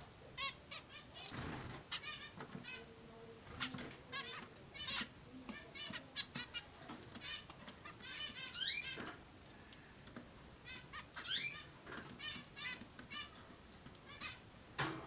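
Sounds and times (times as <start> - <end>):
finches chirping: 0.4 - 9.2, 10.6 - 14.4.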